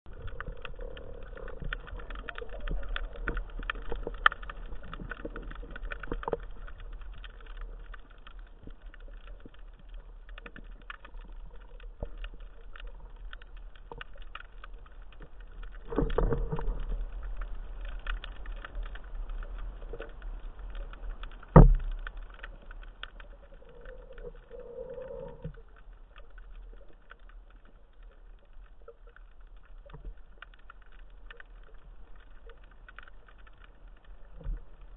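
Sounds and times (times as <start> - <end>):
crackle of small clicks: 0.1 - 34.9
low underwater rumble: 0.1 - 34.9.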